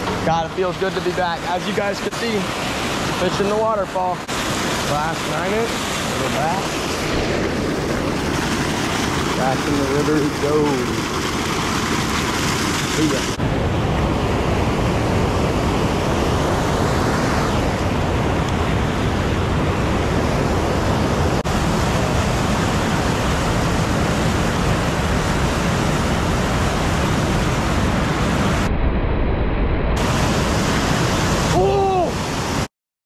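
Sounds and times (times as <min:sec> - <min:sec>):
whitewater pouring over dam: 0:00.0 - 0:13.4, 0:16.0 - 0:28.3, 0:30.0 - 0:32.7.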